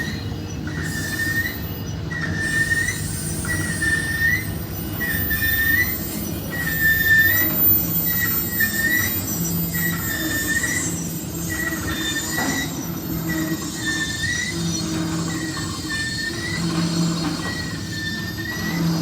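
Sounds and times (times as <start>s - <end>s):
freight train rumbling on rails: 0.0s - 19.0s
train wheel squeal: 0.0s - 19.0s.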